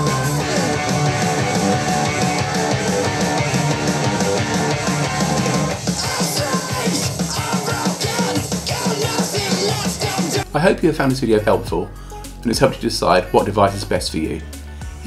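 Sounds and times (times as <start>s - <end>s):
rock music through a smart speaker: 0.0s - 15.0s.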